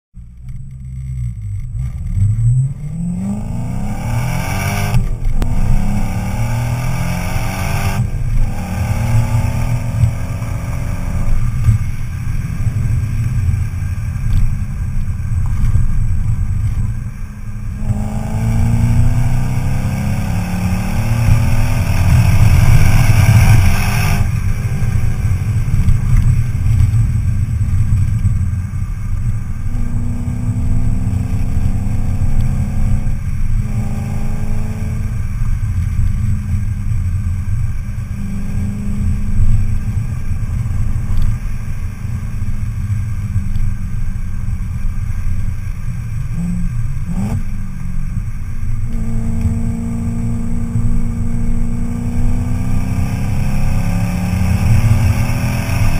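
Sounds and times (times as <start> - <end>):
car exhaust revving: 0.2 - 55.9.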